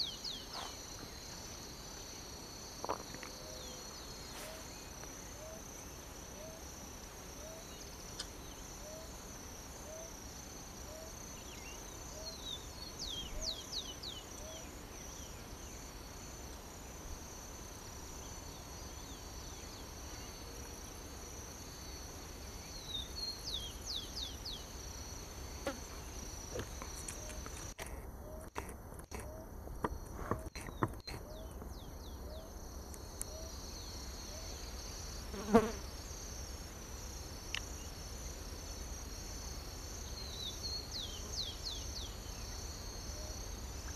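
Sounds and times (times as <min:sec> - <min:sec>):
high drone of insects: 0:00.0 - 0:43.9.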